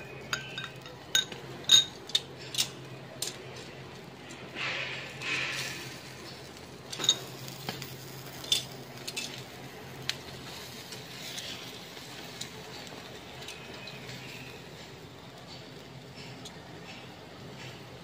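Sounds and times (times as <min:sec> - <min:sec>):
food sizzling on a grill: 0:00.0 - 0:18.0.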